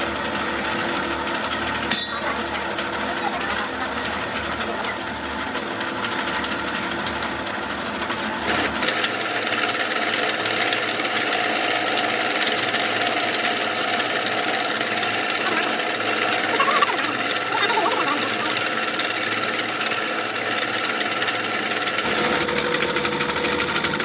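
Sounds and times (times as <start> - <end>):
power machine rattling: 0.0 - 24.0.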